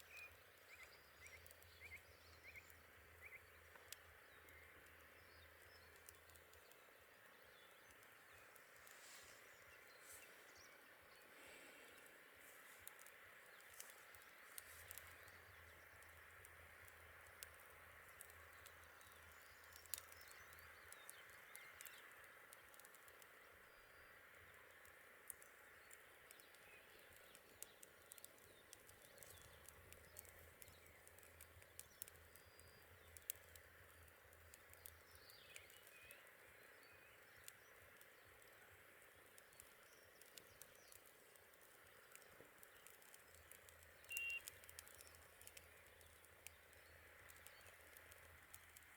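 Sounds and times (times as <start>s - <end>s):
campfire crackling: 0.0s - 48.9s
steady soft hiss: 0.0s - 48.9s.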